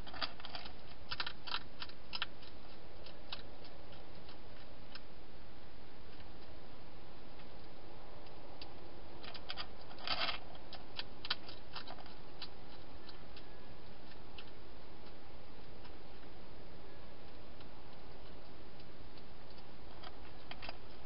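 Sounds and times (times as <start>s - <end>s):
hedgehog crunching dry food: 0.0s - 5.2s, 7.4s - 16.3s, 17.3s - 21.0s
steady hiss: 0.0s - 21.0s.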